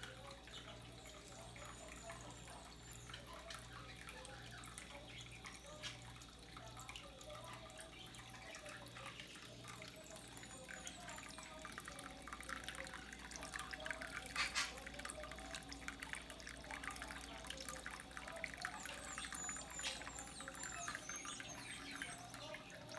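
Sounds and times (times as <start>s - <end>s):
water trickling and dripping: 0.0s - 22.9s.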